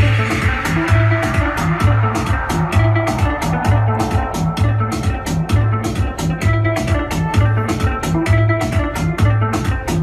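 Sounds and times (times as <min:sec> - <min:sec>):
electronic dance music: 0:00.0 - 0:10.0
repeating bass line: 0:00.0 - 0:10.0.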